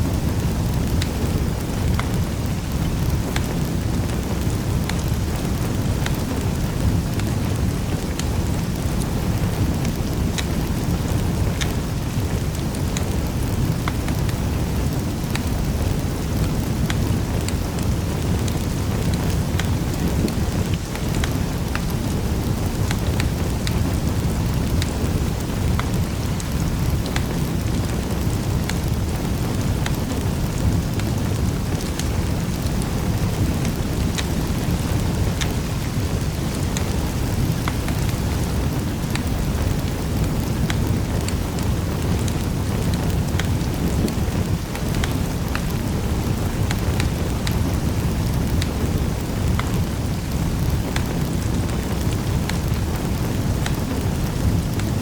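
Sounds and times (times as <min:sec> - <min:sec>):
burning wood popping and snapping: 0:00.0 - 0:55.0
fire rumbling: 0:00.0 - 0:55.0.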